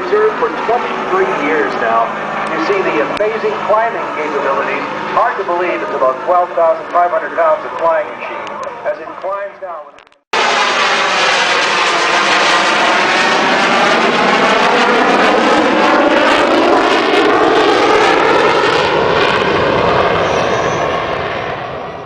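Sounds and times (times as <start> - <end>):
airplane engine flying past: 0.0 - 9.0, 10.4 - 22.0.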